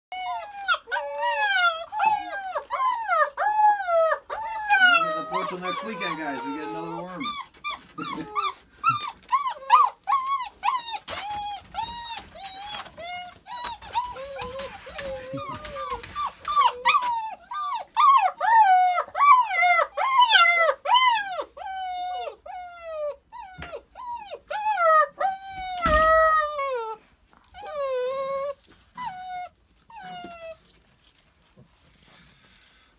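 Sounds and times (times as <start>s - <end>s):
puppies whining and yelping: 0.1s - 32.1s.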